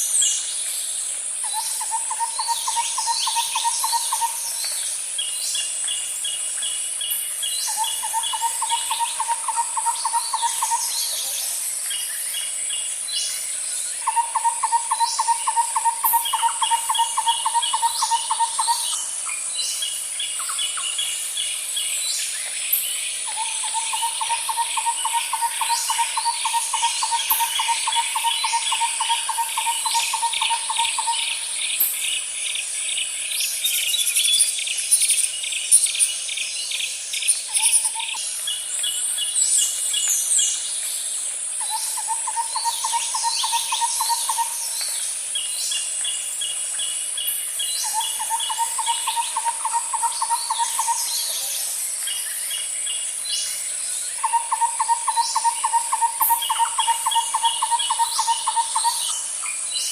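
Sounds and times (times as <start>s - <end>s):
cricket-like chirping: 0.0s - 59.9s
high-pitched insect drone: 0.0s - 59.9s.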